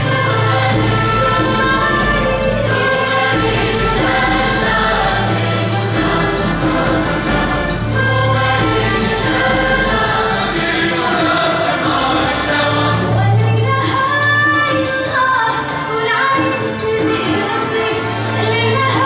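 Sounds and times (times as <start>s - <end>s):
symphony orchestra playing: 0.0s - 19.0s
voices singing: 0.0s - 19.0s.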